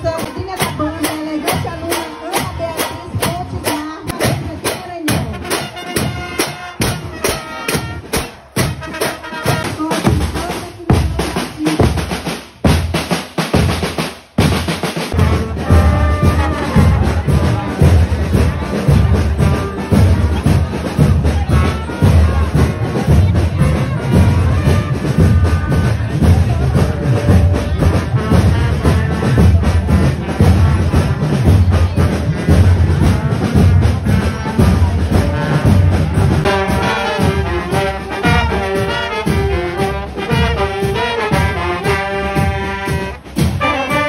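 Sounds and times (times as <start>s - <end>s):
heavy low drum beat: 0.0s - 44.0s
marching band playing: 0.0s - 44.0s
brass melody: 3.7s - 12.0s, 15.0s - 44.0s.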